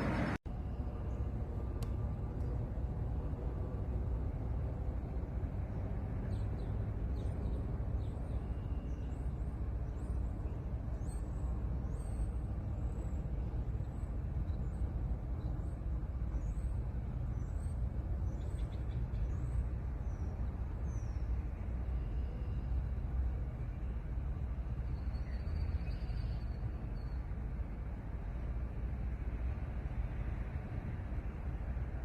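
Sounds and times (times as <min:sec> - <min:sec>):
low vehicle rumble: 0:00.0 - 0:32.0.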